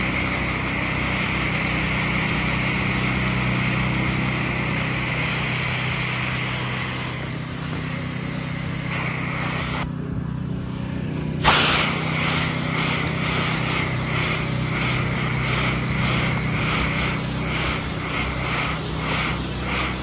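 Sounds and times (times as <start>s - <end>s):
high-pressure spray hissing: 0.0s - 10.0s, 11.4s - 20.0s
pressure washer engine running: 0.0s - 20.0s.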